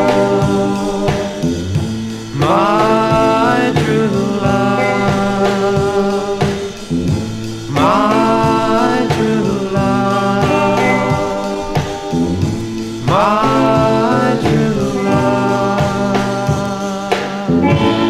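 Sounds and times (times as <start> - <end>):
upward swooping guitar notes: 0.0 - 16.9, 17.5 - 18.0
surf rock band music: 0.0 - 18.0.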